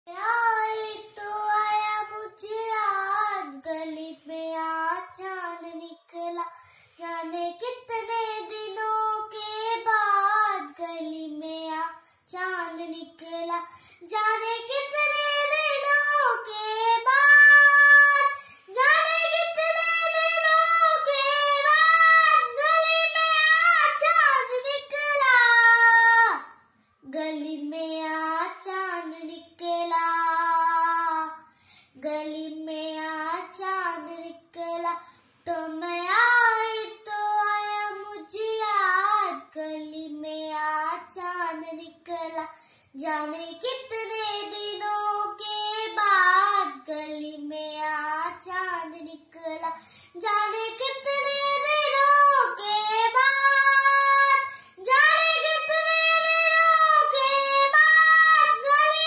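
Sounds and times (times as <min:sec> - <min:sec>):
girl singing unaccompanied: 0:00.0 - 0:59.0.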